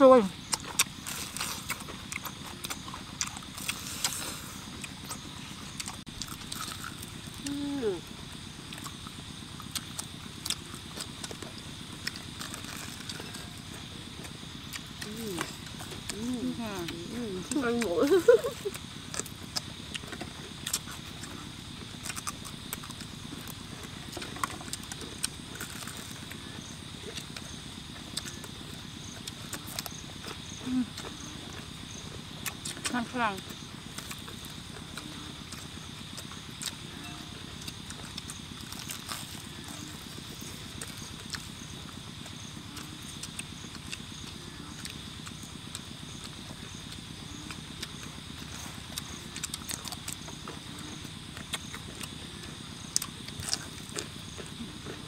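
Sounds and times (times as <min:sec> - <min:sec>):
night insects chorus: 0:00.0 - 0:55.0
people chewing crunchy food: 0:00.0 - 0:55.0.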